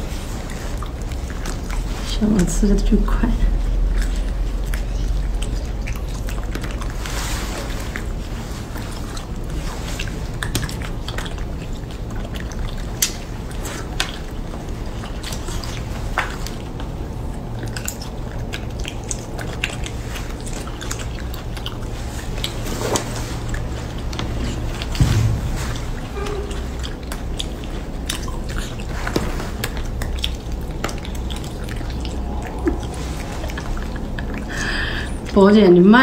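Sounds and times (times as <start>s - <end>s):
chewing and mouth smacks: 0.0s - 35.4s
steady low hum: 0.0s - 36.0s.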